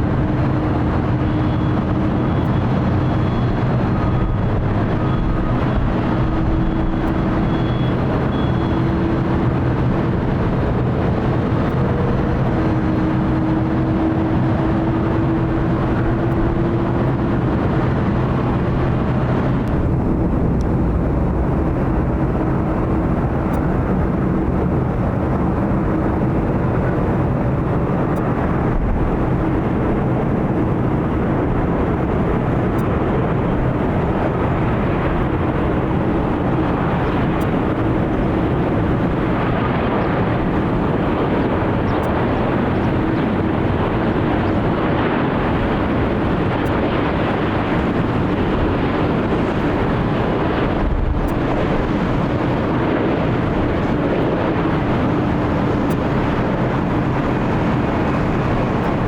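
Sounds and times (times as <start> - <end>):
jet engines of passing airliner: 0.0 - 59.0.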